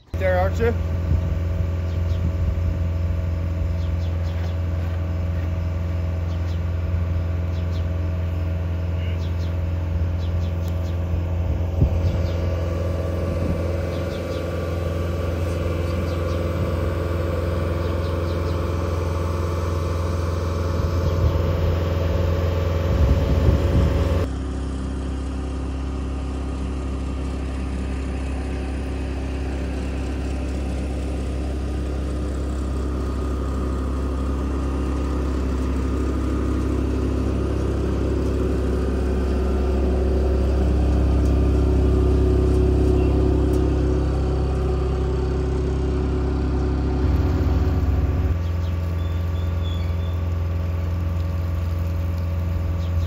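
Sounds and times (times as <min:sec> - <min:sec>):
heavy machinery engine droning: 0:00.0 - 0:53.0.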